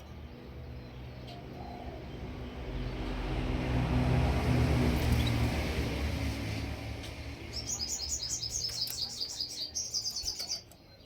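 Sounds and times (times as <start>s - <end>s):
songbird chirping and trilling: 0.0s - 4.1s, 4.8s - 11.0s.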